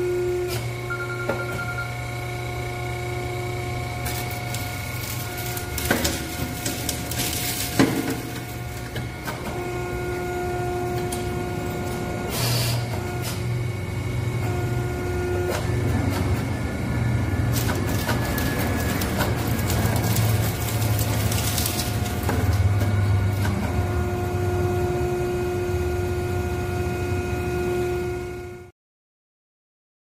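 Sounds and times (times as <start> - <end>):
hydraulic pump whining: 0.0 - 28.7
hydraulic unit humming: 0.0 - 28.7.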